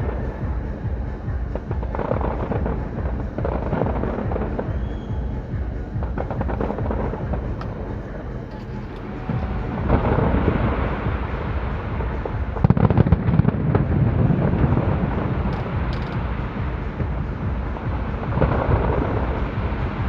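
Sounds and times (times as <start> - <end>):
fireworks booming and crackling: 0.0 - 20.0
loud fireworks bangs: 0.0 - 20.0.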